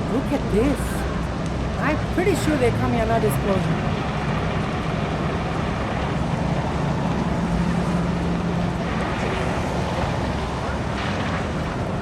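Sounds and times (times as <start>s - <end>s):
constant rushing noise: 0.0s - 12.0s
fire engine droning: 0.0s - 12.0s.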